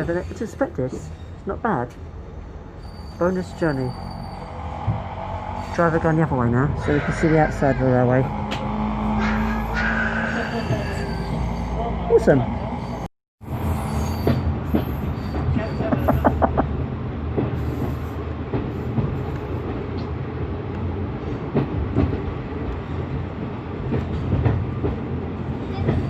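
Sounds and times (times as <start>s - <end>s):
train running rumble: 0.0s - 26.0s.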